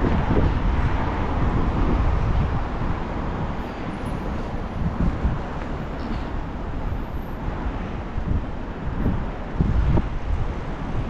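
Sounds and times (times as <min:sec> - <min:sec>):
city traffic noise: 0:00.0 - 0:11.0
wind buffeting microphone: 0:00.0 - 0:11.0.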